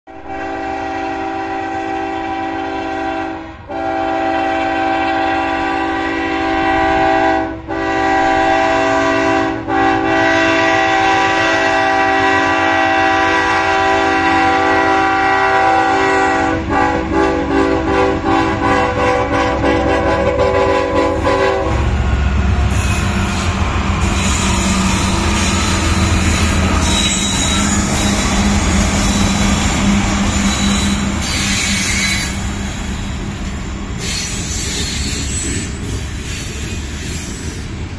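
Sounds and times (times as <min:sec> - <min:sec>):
locomotive air horn blasts: 0:00.1 - 0:32.4.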